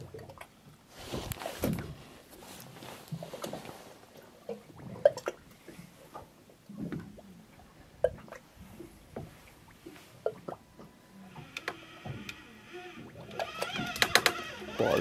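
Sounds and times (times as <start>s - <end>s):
water lapping against hull: 0.0s - 15.0s.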